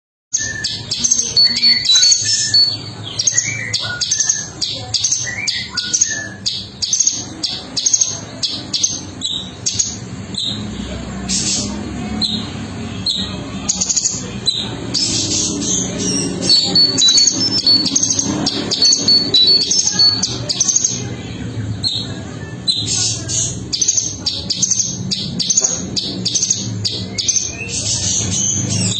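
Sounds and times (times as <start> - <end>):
bird song of high chirps: 0.3 - 28.9.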